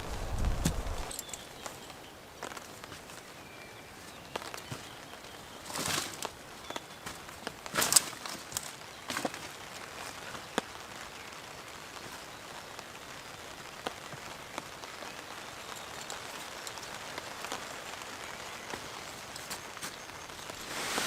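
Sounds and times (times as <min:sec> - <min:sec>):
raindrops tapping close by: 0:00.0 - 0:21.0
steady rain falling: 0:00.0 - 0:21.0.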